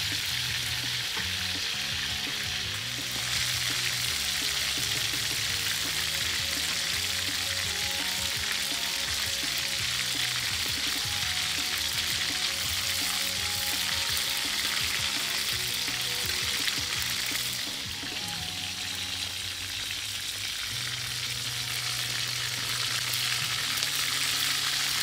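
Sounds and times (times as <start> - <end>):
oil sizzling in a wok: 0.0 - 25.0.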